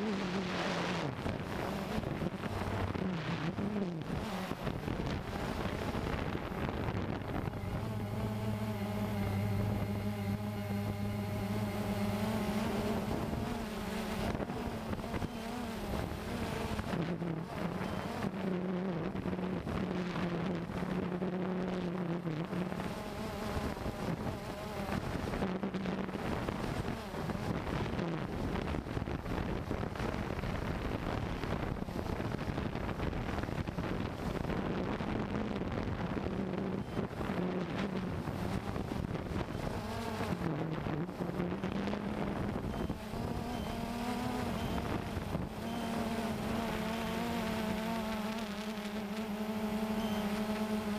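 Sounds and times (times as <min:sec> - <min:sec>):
wind buffeting microphone: 0:00.0 - 0:18.2, 0:22.7 - 0:46.9
drone propellers humming: 0:00.0 - 0:50.9.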